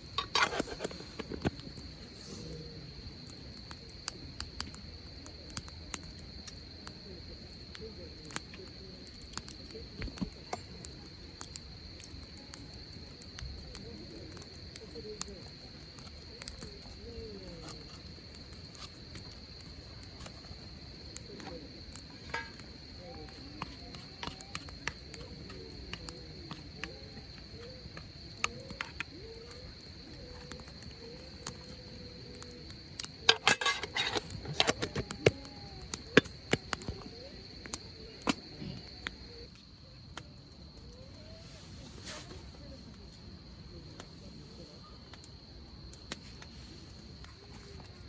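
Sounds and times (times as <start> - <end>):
campfire crackling and popping: 0.0 - 48.0
crickets chirping: 0.0 - 48.0
faint voices murmuring: 0.0 - 48.0.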